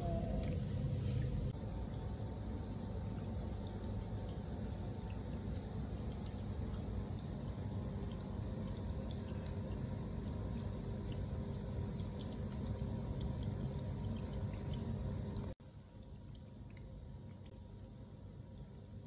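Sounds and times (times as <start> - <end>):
water fountain trickling: 0.0 - 19.0.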